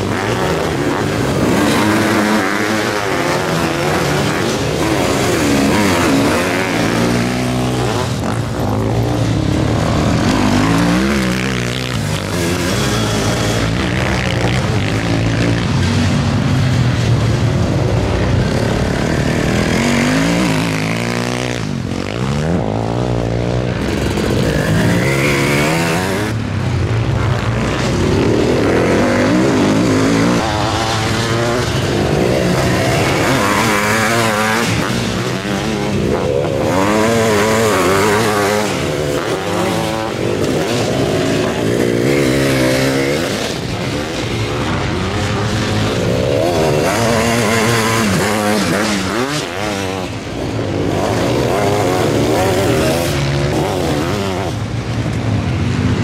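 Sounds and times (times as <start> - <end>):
racing engines revving: 0.0 - 56.0.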